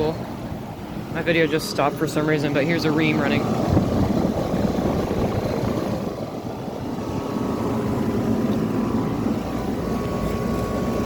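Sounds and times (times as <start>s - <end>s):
compressor hum: 0.0s - 11.0s
condenser fan rushing: 0.0s - 11.0s.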